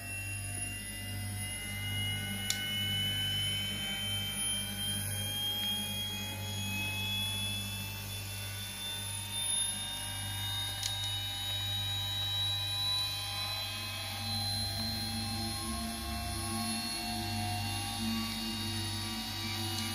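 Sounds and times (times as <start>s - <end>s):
gyro rotor whine rising: 0.0s - 19.9s
steady low hum: 0.0s - 19.9s.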